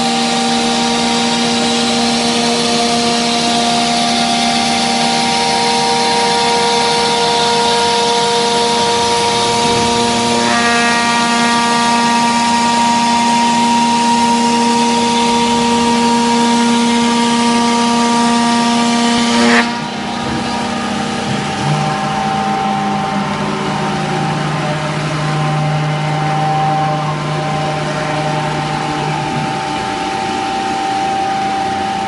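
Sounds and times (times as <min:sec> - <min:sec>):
router spindle whining: 0:00.0 - 0:32.0
low steady hum: 0:04.5 - 0:32.0.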